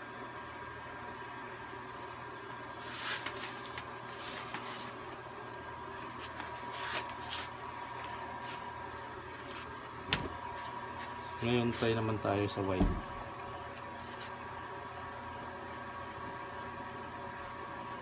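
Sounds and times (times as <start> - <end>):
electrical hum with high whine: 0.0 - 18.0.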